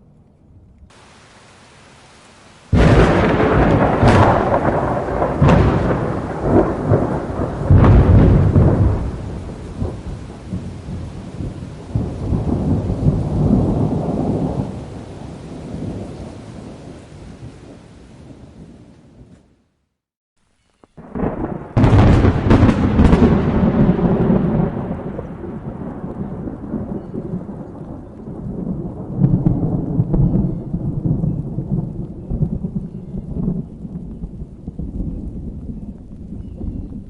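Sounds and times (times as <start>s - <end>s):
steady rain: 0.0s - 37.0s
thunder cracking and rumbling: 2.6s - 19.4s, 21.0s - 37.0s.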